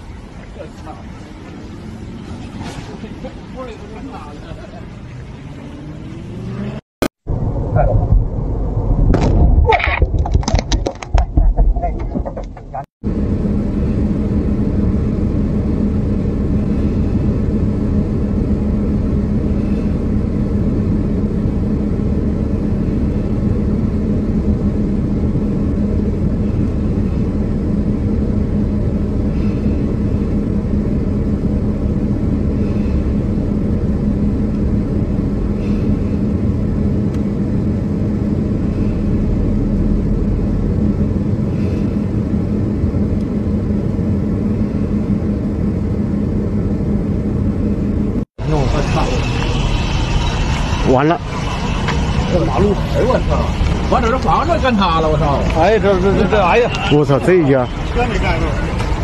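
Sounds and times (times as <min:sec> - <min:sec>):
car engine and road rumble: 0:00.0 - 0:59.0
low hum: 0:00.0 - 0:59.0.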